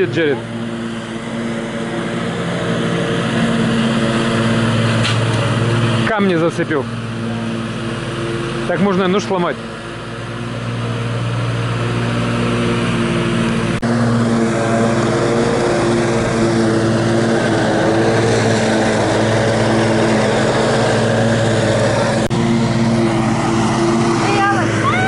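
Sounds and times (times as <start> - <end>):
riding mower engine humming: 0.0 - 25.0.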